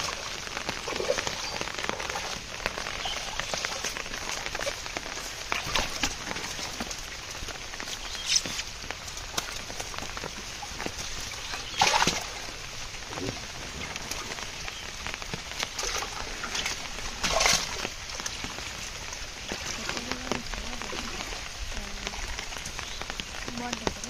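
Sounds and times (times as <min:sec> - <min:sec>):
fish flapping: 0:00.0 - 0:23.8
light patter of rain: 0:00.0 - 0:24.0.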